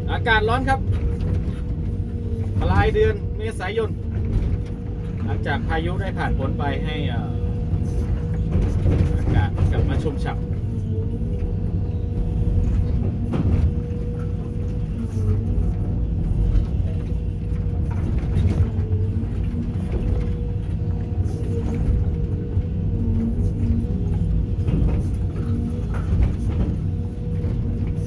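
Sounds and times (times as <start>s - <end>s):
diesel engine under load: 0.0s - 28.0s
hydraulic whine: 0.0s - 28.0s.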